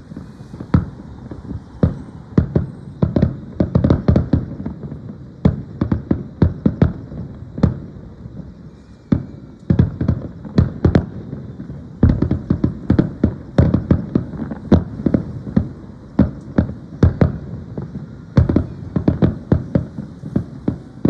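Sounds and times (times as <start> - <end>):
firework shells bursting: 0.0 - 21.0.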